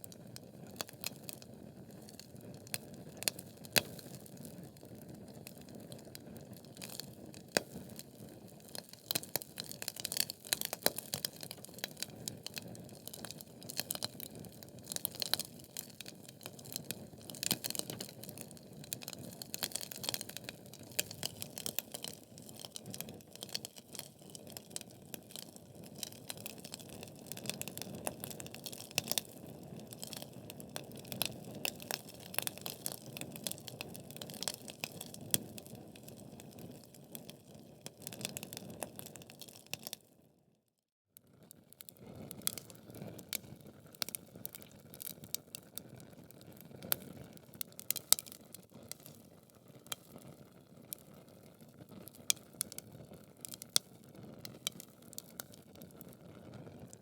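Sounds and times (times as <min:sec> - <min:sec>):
wood fire crackling and popping: 0:00.0 - 0:40.0, 0:41.9 - 0:57.0.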